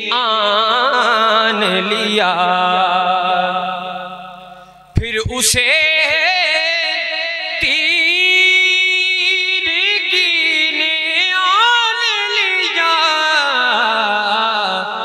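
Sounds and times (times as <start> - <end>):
man chanting wordless melody: 0.0 - 15.0.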